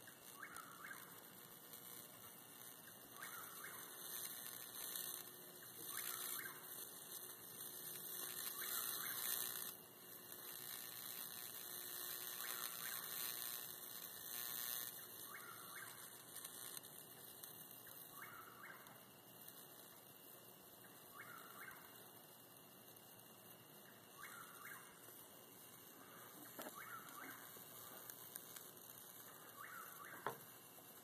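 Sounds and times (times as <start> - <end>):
bug zapper sizzling: 0.0 - 31.0.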